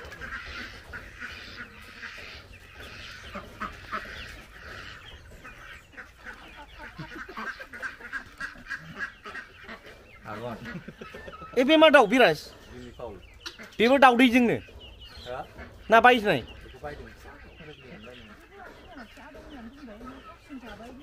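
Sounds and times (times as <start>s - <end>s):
chickens clucking: 0.0s - 21.0s
ducks quacking: 0.0s - 21.0s.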